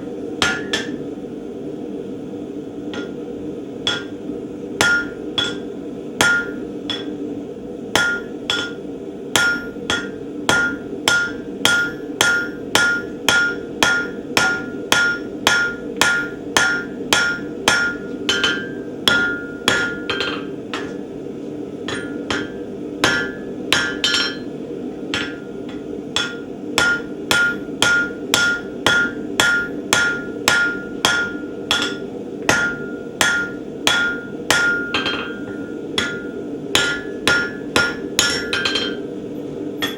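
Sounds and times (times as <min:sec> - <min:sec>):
steady hum: 0:00.0 - 0:39.9
hammer ringing on anvil: 0:00.4 - 0:01.0, 0:02.9 - 0:03.2, 0:03.9 - 0:04.2, 0:04.8 - 0:07.2, 0:08.0 - 0:08.8, 0:09.4 - 0:21.0, 0:21.9 - 0:24.5, 0:25.1 - 0:39.0.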